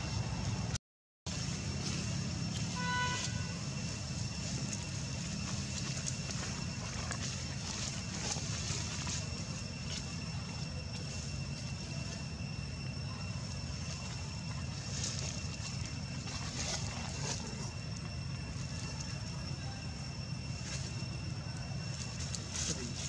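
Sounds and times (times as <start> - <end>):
dry leaves rustling: 1.3 - 23.0.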